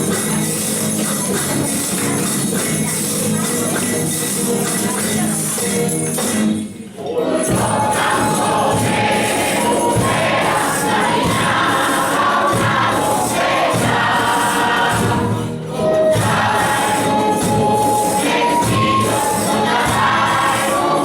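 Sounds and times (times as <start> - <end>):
jingling tambourine: 0.0 - 21.0.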